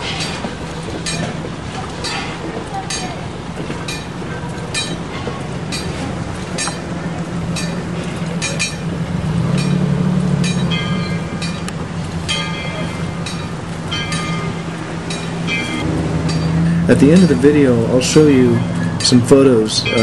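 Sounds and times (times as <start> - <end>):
crossing signal bell: 0.0 - 20.0
passing train rumble: 0.0 - 20.0
ringing metallic tone: 3.8 - 20.0.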